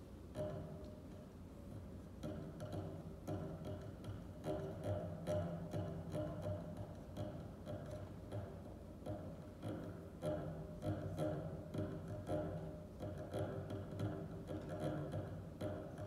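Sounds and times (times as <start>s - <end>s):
sharp clicks on strings: 0.3s - 16.0s.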